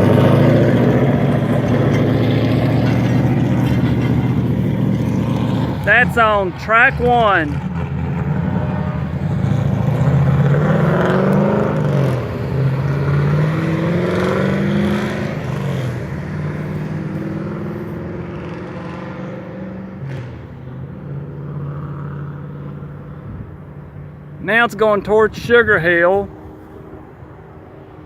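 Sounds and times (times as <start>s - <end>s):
vehicle engines accelerating past: 0.0s - 28.0s.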